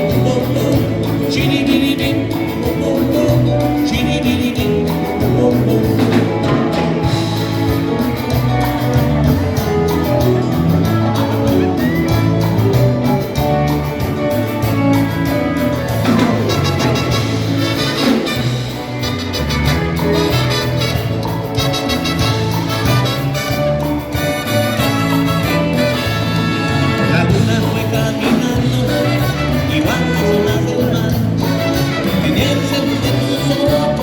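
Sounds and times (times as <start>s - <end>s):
live band playing latin dance music: 0.0s - 34.0s.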